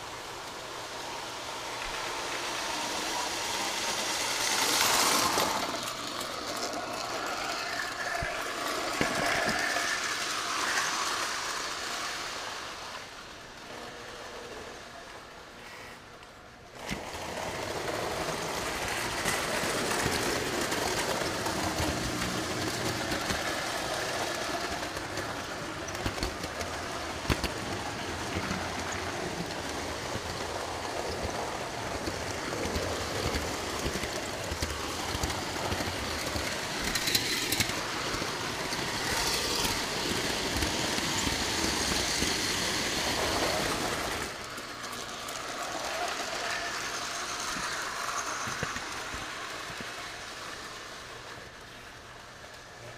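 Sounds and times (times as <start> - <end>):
model train running on track: 0.0 - 52.9.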